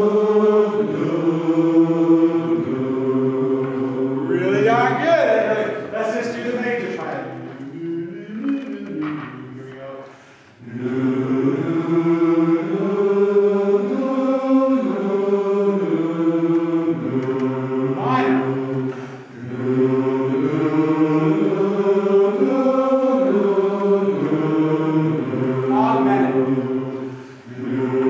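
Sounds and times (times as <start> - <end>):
men's chorus singing held chords: 0.0 - 28.0.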